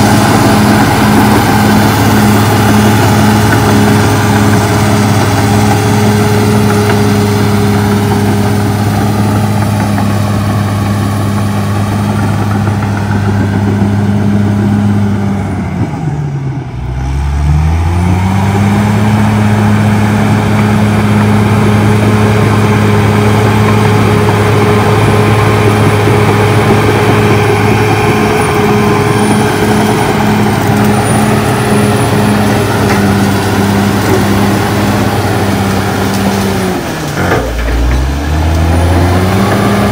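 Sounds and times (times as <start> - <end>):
blade pushing brush and soil: 0.0 - 15.2, 18.4 - 39.9
bulldozer diesel engine running: 0.0 - 39.9.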